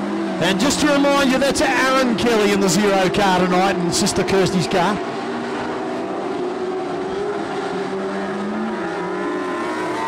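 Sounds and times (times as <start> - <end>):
racing car engines revving: 0.0 - 10.0.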